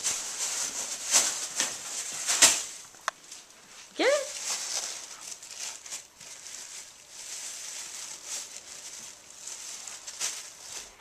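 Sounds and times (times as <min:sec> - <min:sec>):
dog tearing tissue paper: 0:00.0 - 0:02.8, 0:04.0 - 0:11.0.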